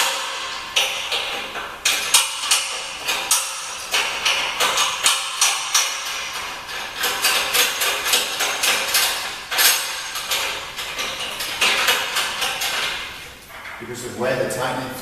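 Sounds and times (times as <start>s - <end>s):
metal clamp clinking on tube: 0.0s - 13.8s.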